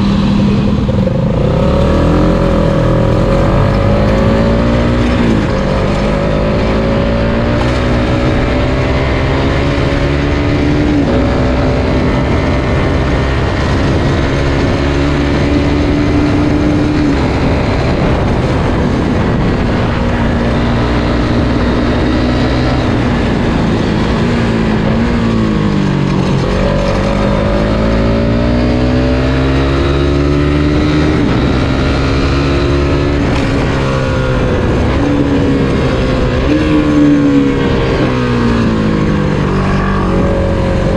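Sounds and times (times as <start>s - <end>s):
motorcycle engine revving: 0.0s - 40.9s
wind and road rush: 0.0s - 40.9s.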